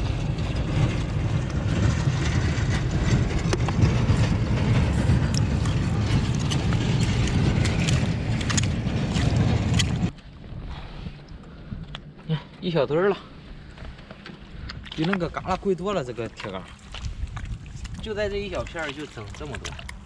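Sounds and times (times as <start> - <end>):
wind buffeting microphone: 0.0 - 12.2, 12.8 - 20.0.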